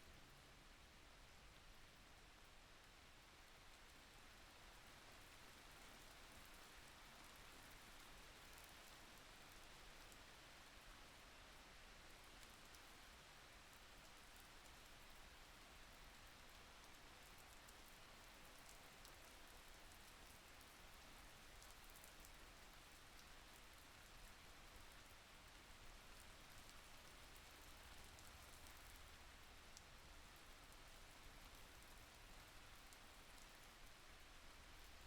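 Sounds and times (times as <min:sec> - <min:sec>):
faint steady rain: 0:00.0 - 0:35.0.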